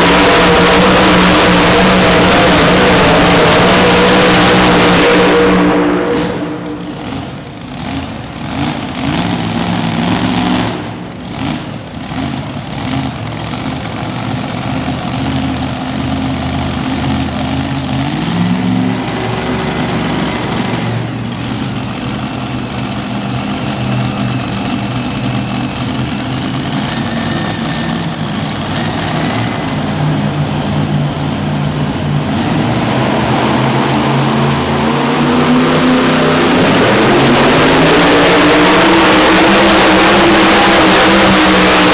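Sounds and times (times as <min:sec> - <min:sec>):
truck engine idling and blipping: 0:00.0 - 0:41.9.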